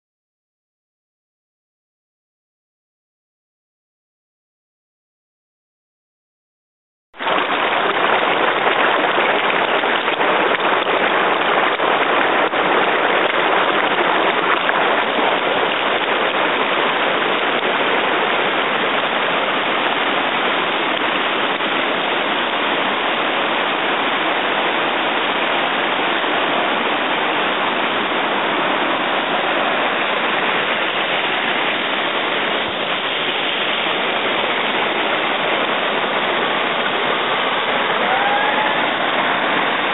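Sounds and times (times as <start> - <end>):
river rapids rushing over rocks: 7.2 - 39.9.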